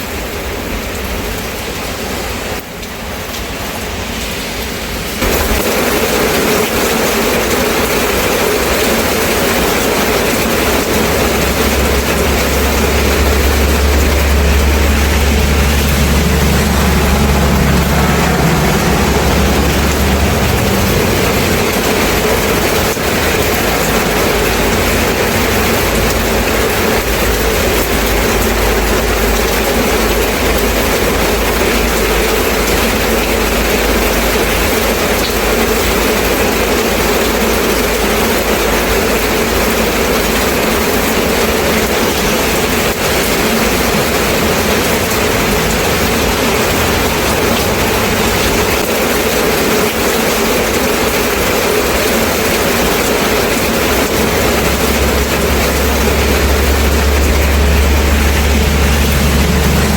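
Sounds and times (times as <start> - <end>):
steady rain: 0.0 - 59.9
passing vehicle rumble: 3.2 - 59.9.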